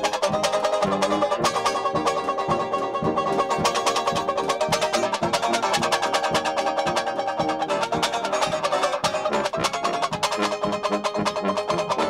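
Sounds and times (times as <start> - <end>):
banjo strumming fast chords: 0.0 - 12.0
jazz band playing: 0.0 - 12.0.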